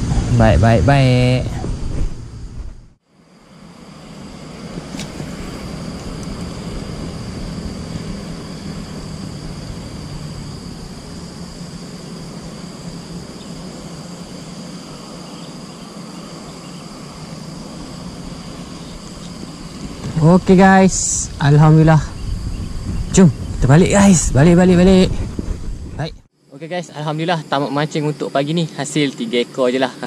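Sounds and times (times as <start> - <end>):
low steady hum: 0.0 - 26.2
insects droning: 0.0 - 30.0.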